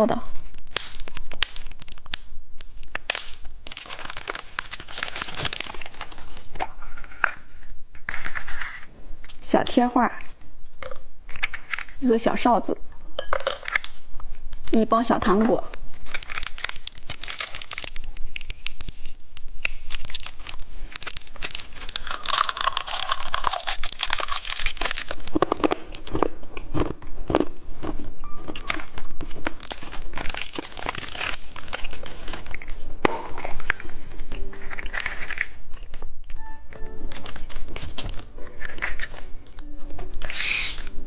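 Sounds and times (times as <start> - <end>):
plastic wrapper crinkling and tearing: 0.3 - 9.4, 10.3 - 12.1, 13.4 - 14.8, 15.4 - 41.0
candy crunching while chewed: 0.6 - 8.8, 10.8 - 12.0, 15.9 - 36.1, 36.9 - 40.9.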